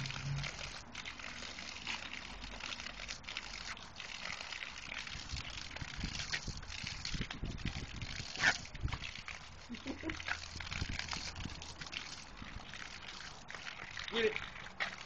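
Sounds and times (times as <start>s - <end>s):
water jet spraying on grass: 0.0s - 15.0s.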